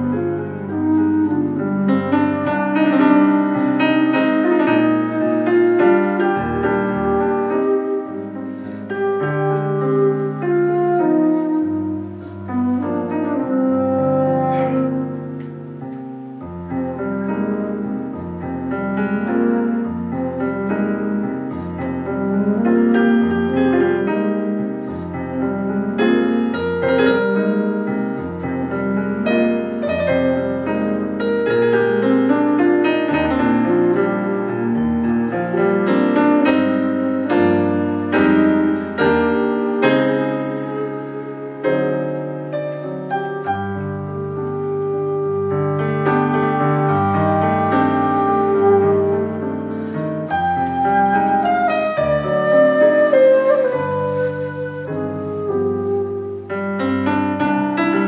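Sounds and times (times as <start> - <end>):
flute: 0.0 - 58.0
piano chords and runs: 0.0 - 58.0.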